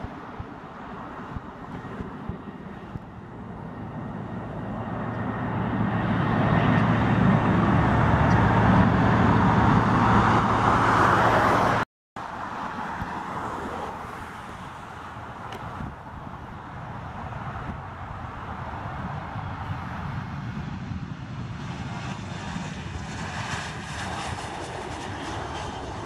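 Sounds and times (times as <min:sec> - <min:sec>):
distant jet noise: 0:00.0 - 0:26.0
jet engines roaring: 0:00.0 - 0:26.0.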